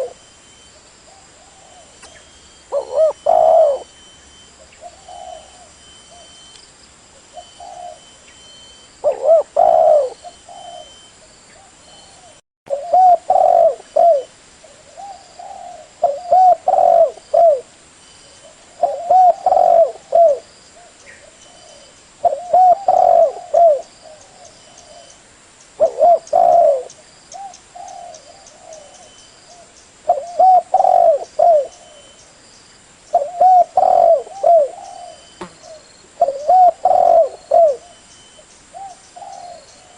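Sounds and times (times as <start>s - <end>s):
dove cooing: 0.0s - 0.2s, 1.1s - 4.1s, 4.7s - 6.4s, 7.3s - 8.2s, 9.0s - 17.7s, 18.4s - 25.2s, 25.8s - 32.2s, 33.1s - 39.9s.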